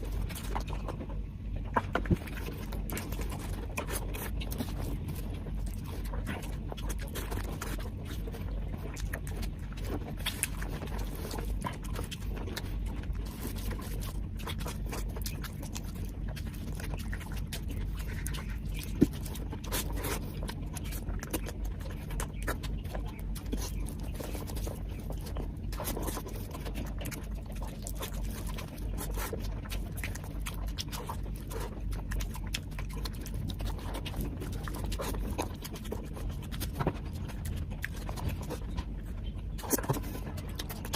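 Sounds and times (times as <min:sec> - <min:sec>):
wet chewing and lip-smacking: 0:00.0 - 0:40.9.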